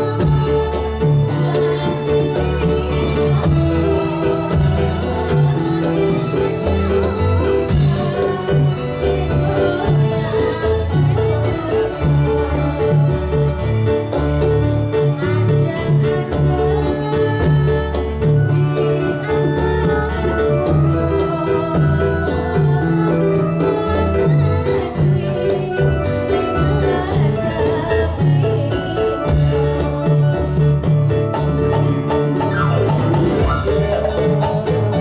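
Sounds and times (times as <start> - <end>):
drums beating steady rhythm: 0.0 - 35.0
pitched melody: 0.0 - 35.0.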